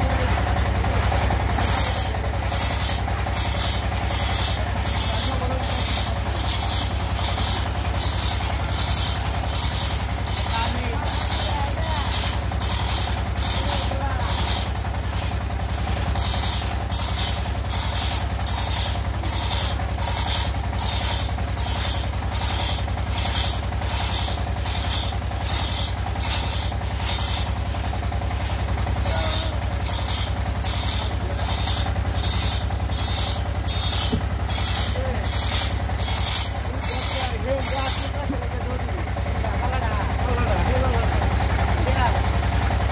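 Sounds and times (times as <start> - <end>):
hand saw rasping through wood: 0.0 - 38.4.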